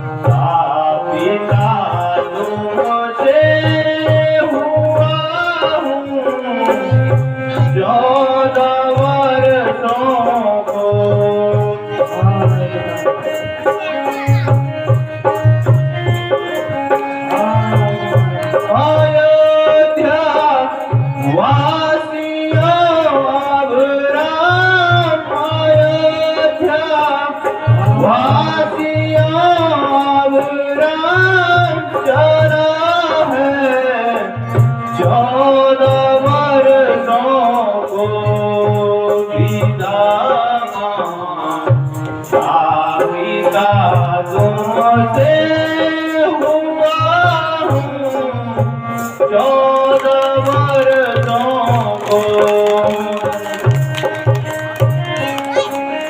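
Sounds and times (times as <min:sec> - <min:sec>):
person singing: 0:00.0 - 0:56.0
tabla drumming: 0:00.0 - 0:56.0.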